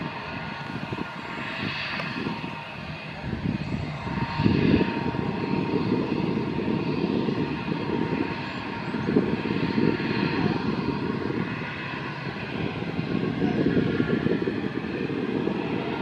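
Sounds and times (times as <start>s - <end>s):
jet engines idling rumble: 0.0s - 16.0s.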